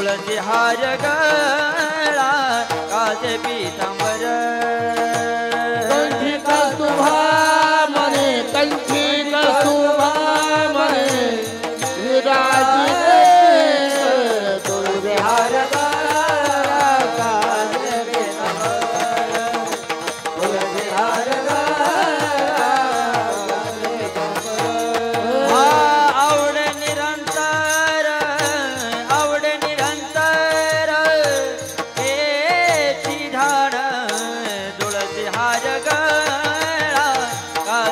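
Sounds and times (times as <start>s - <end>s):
man singing devotional song: 0.0s - 37.9s.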